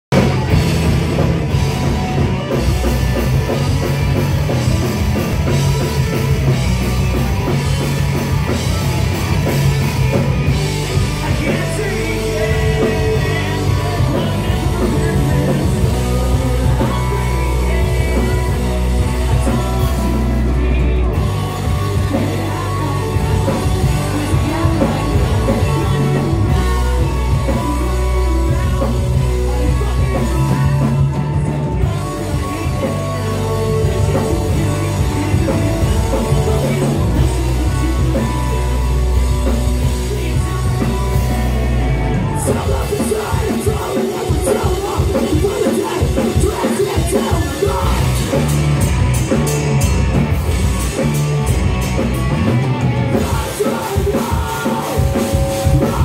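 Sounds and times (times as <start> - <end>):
distorted electric guitars: 0.0 - 56.0
drum kit: 0.0 - 56.0
shouted-sung lead vocal: 0.2 - 56.0.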